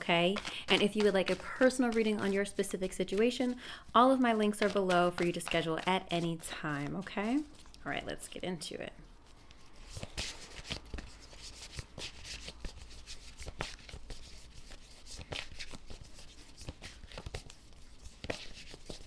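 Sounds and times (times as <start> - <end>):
cards being shuffled: 0.0 - 7.8, 9.4 - 19.0.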